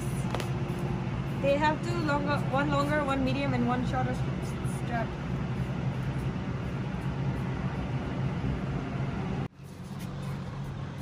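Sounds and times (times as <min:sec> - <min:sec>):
low rumble and hum: 0:00.0 - 0:11.0.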